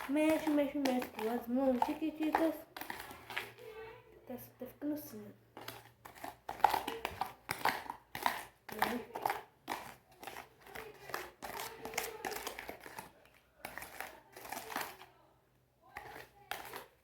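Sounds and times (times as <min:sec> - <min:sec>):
thick mixture being stirred: 0:00.0 - 0:17.0.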